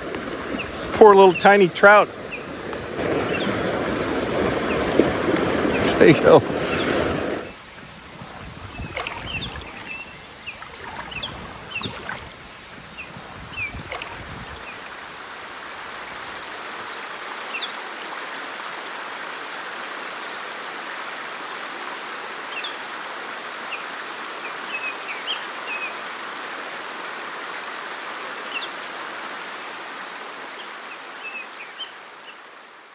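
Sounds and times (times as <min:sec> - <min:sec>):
stream rushing over rocks: 0:00.0 - 0:07.9, 0:13.8 - 0:32.9.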